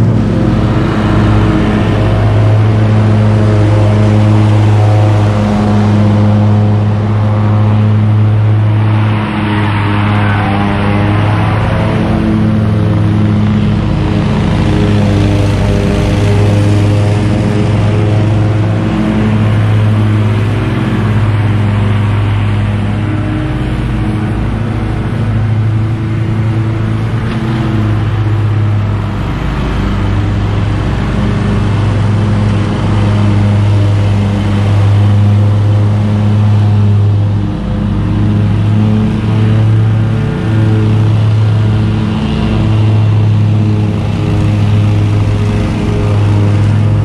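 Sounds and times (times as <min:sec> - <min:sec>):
mower engine running: 0:00.0 - 0:47.0.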